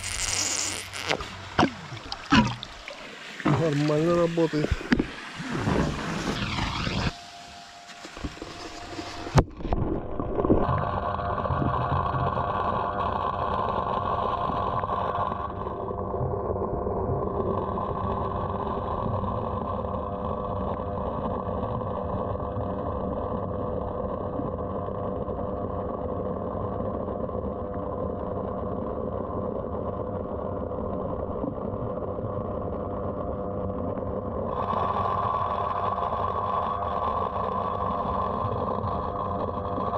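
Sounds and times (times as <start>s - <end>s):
muffled water pump motor hum: 0.0s - 39.9s.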